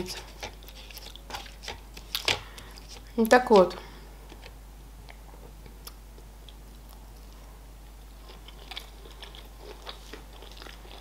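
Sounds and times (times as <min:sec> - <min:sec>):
person chewing food: 0:00.0 - 0:03.2, 0:04.3 - 0:11.0.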